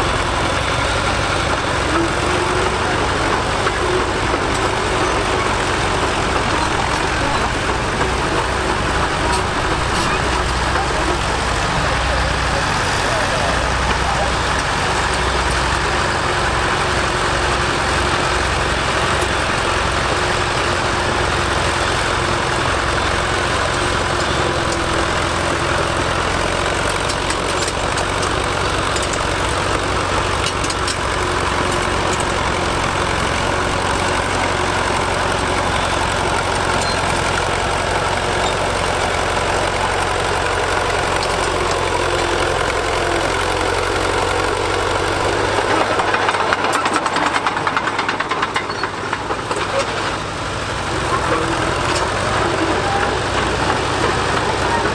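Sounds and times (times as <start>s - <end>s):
bulldozer engine under load: 0.0s - 54.9s.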